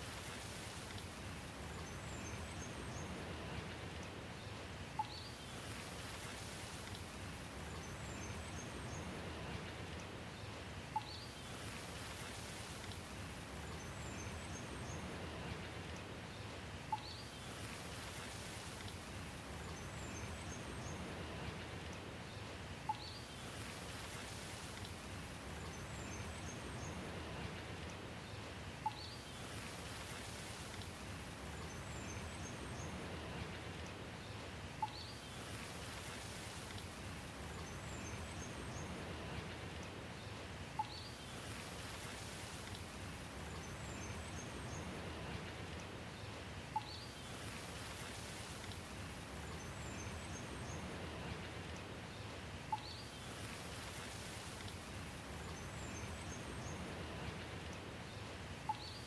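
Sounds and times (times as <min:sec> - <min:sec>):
rain hiss: 0:00.0 - 0:59.0.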